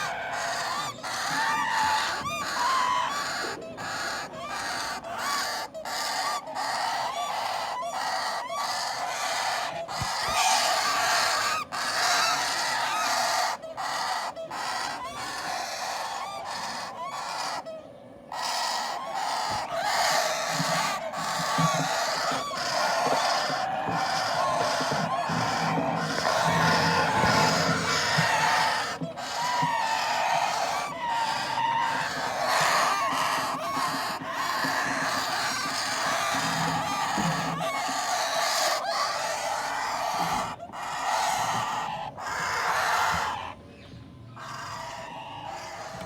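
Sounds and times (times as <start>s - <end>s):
parrot chicks rasping begging calls: 0.0s - 46.0s.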